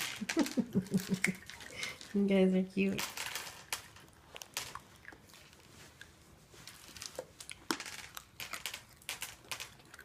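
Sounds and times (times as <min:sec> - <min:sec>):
wrapping crinkling and crackling: 0:00.0 - 0:10.0.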